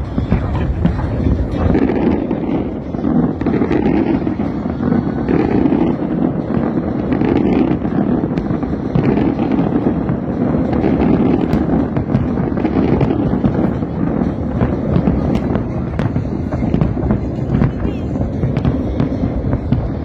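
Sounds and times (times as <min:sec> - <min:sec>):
fireworks barrage: 0:00.0 - 0:20.0
fireworks sharp cracks: 0:00.0 - 0:20.0
wind buffeting microphone: 0:00.0 - 0:20.0.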